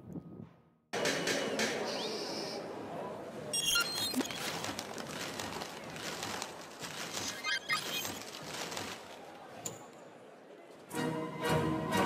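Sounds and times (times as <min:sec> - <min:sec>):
audience murmur in large hall: 0:01.0 - 0:03.6, 0:04.4 - 0:12.0.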